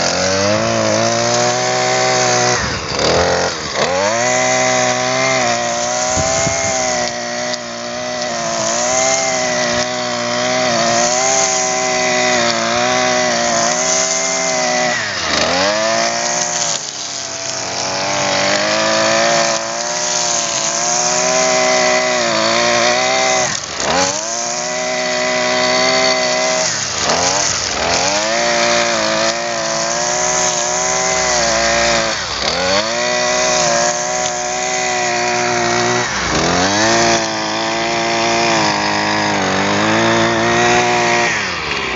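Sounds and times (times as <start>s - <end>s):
brush cutter engine running: 0.0s - 41.9s
string trimmer cutting grass: 0.0s - 41.9s.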